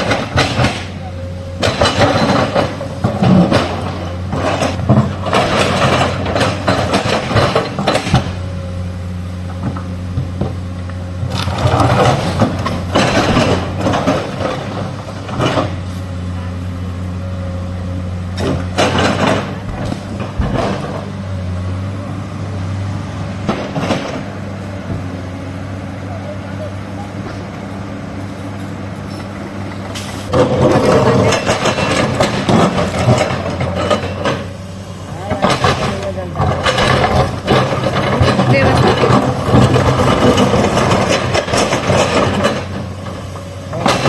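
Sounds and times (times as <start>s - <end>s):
excavator diesel engine running: 0.0s - 44.0s
loud bursts of engine noise: 0.0s - 44.0s.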